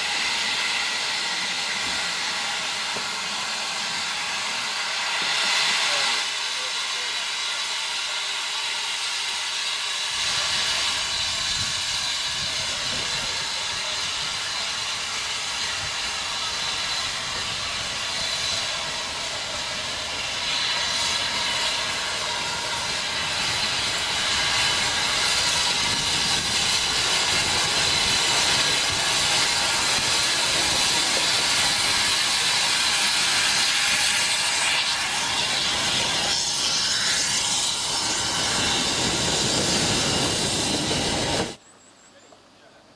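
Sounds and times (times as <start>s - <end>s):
steam hissing: 0.0s - 41.6s.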